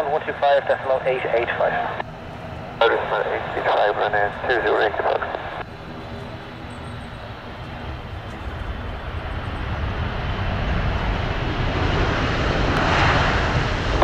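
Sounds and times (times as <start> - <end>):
jet airliner engines: 0.0 - 14.0.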